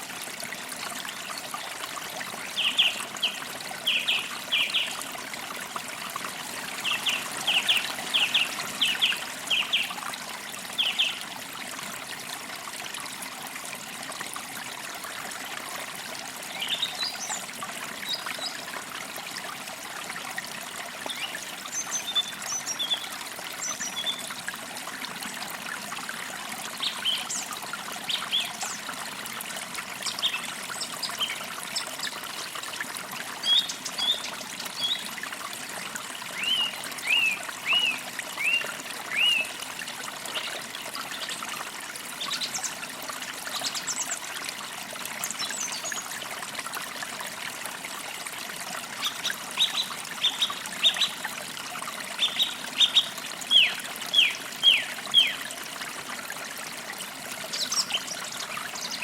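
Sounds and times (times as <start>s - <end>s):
creek trickling: 0.0s - 59.0s.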